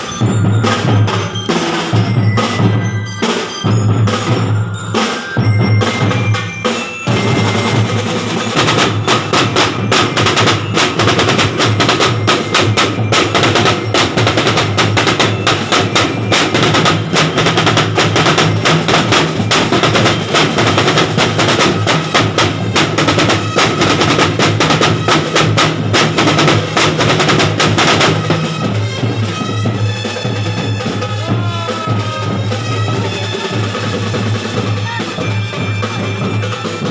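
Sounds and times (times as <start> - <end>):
snare and bass drums playing: 0.0 - 36.9.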